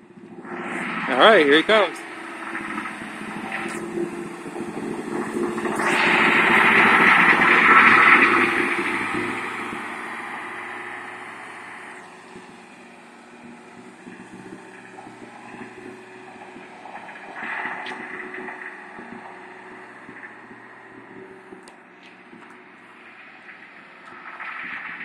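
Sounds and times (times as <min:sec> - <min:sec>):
diesel bus driving past: 0:00.0 - 0:24.7
road noise: 0:00.0 - 0:25.0.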